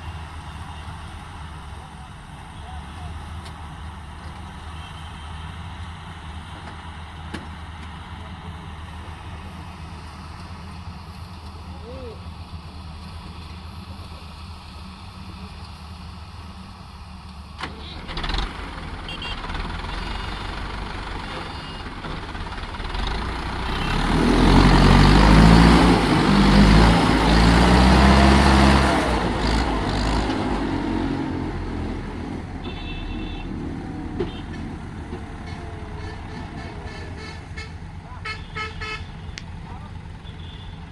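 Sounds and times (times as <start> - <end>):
combine harvester diesel engine: 0.0 - 40.9.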